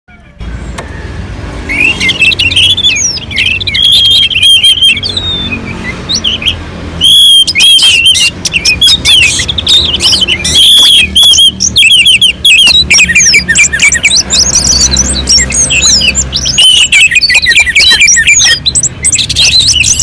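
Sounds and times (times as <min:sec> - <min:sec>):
thrush singing: 0:00.1 - 0:20.0.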